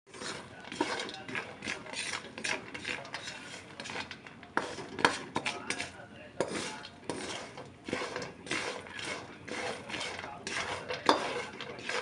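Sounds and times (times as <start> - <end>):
spatula scraping peanuts in pan: 0.1 - 12.0.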